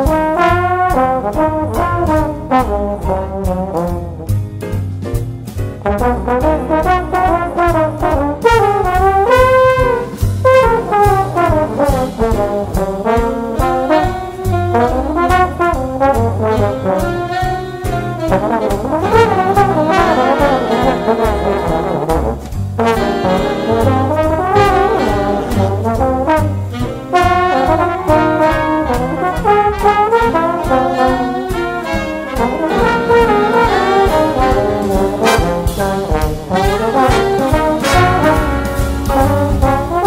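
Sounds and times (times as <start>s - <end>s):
backing track with bass and drums: 0.0s - 40.0s
slide trombone jazz solo: 0.0s - 40.0s.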